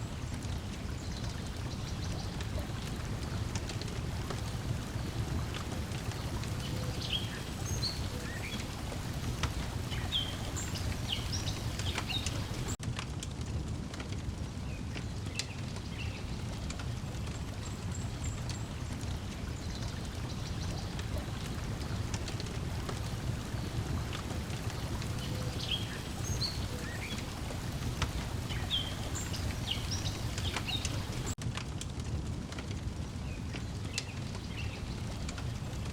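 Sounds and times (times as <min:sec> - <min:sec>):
water lapping at shore: 0:00.0 - 0:12.8, 0:15.2 - 0:31.4
wood fire crackling and popping: 0:00.1 - 0:35.9.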